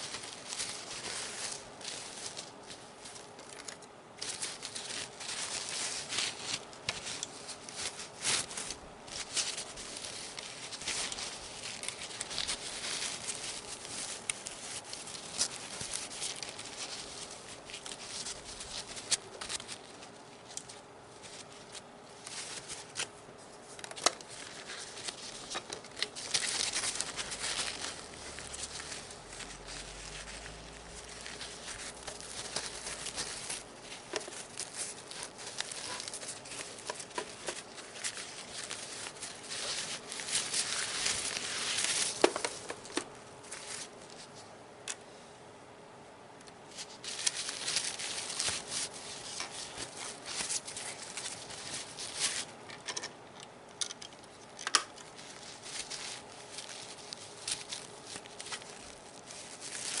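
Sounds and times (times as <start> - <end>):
paper rustling on plastic: 0.0 - 44.5, 46.7 - 53.0, 53.9 - 60.0.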